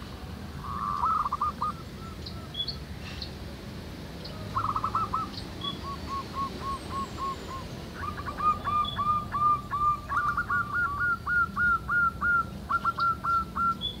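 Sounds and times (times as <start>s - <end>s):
doves cooing: 0.6s - 2.5s, 4.3s - 14.0s.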